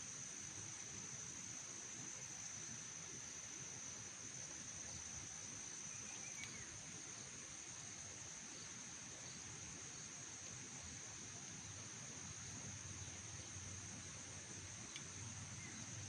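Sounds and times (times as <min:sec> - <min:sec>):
crickets droning: 0:00.0 - 0:16.0
low outdoor hiss: 0:00.0 - 0:16.0.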